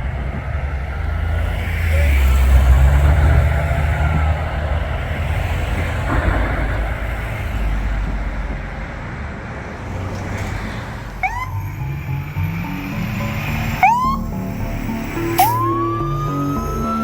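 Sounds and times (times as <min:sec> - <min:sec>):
heavy vehicle engine rumble: 0:00.0 - 0:17.0.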